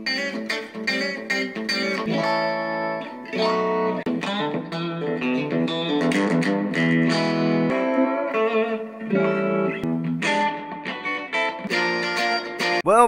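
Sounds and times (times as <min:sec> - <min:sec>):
electric guitar picked notes: 0:00.0 - 0:12.9.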